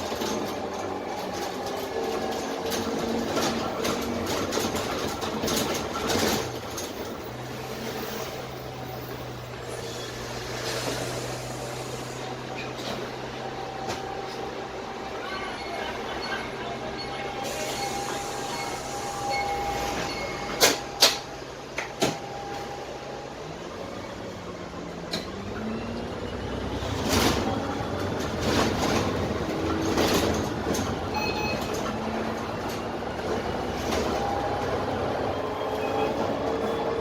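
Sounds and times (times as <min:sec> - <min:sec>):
bus diesel engine: 0:00.0 - 0:37.0.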